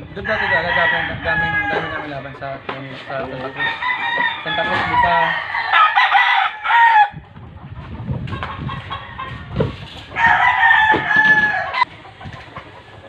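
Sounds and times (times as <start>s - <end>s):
roosters crowing and clucking: 0.0s - 13.0s.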